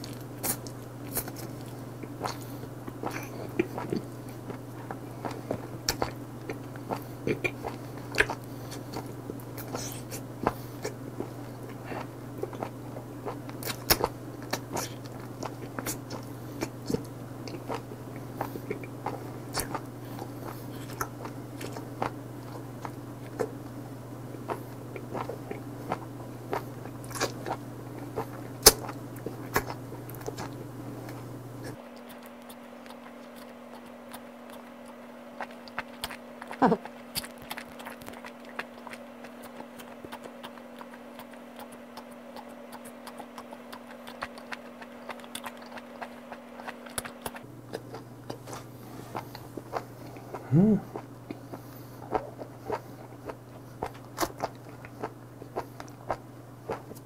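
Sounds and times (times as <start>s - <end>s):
person chewing and smacking: 0.0s - 57.0s
steady low hum: 0.0s - 57.0s.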